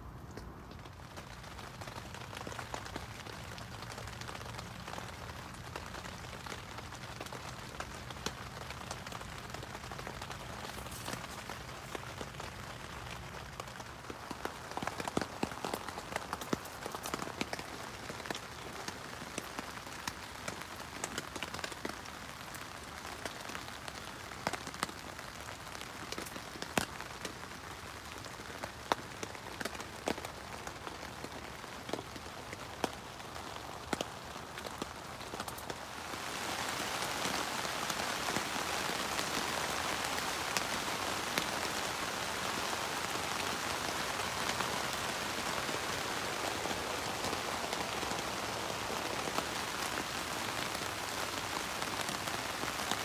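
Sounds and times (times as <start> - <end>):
rain hissing on a tent: 0.0 - 53.0
raindrops ticking on fabric: 0.0 - 53.0.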